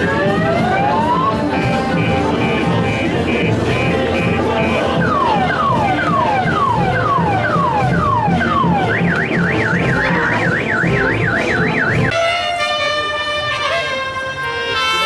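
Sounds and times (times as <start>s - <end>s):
car alarm whooping and warbling: 0.0s - 12.2s
music with steady beat: 0.0s - 15.0s.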